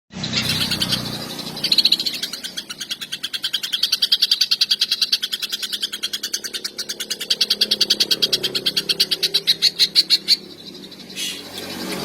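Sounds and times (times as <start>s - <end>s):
bird singing rattling trill: 0.1s - 12.0s.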